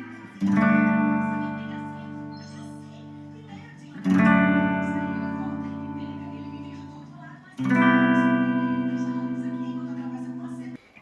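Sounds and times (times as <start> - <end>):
electric guitar chords ringing: 0.0 - 10.8.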